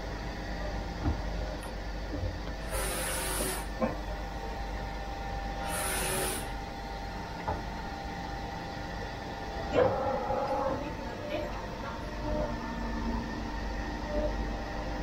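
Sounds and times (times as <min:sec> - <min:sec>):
workshop machinery hum: 0:00.0 - 0:15.0.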